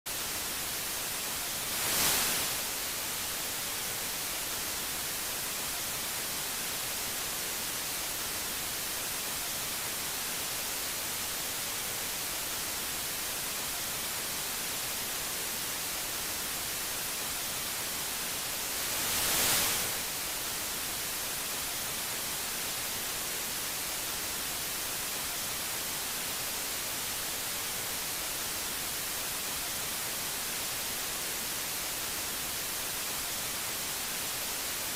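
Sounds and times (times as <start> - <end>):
static hiss: 0.1 - 34.9.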